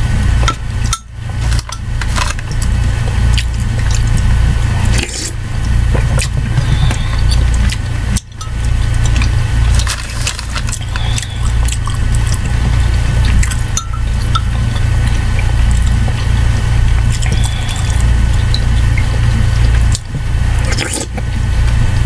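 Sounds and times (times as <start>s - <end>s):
liquid sloshing: 0.0s - 22.0s
low hum: 0.0s - 22.0s.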